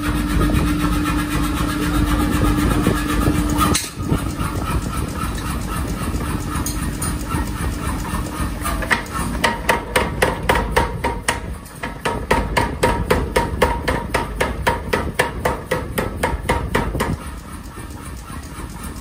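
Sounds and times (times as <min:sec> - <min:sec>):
power hammer striking metal: 0:03.3 - 0:19.0.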